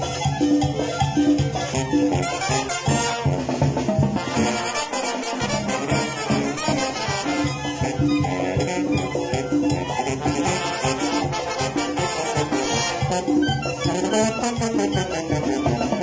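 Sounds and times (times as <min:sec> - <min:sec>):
bass drum: 0:00.0 - 0:16.0
congas: 0:00.0 - 0:16.0
snare drums: 0:00.0 - 0:16.0
trumpets and trombones melody: 0:00.0 - 0:16.0.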